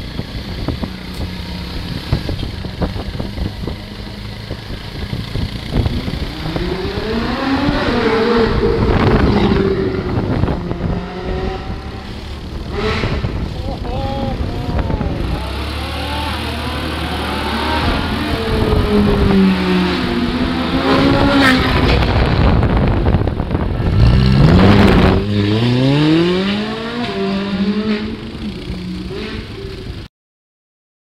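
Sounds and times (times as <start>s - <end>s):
car engines revving and accelerating: 0.0s - 30.1s.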